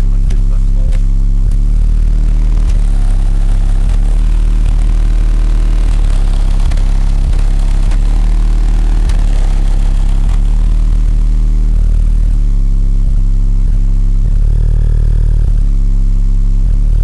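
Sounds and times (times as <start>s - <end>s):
loud bass-heavy music from subwoofers: 0.0s - 17.0s.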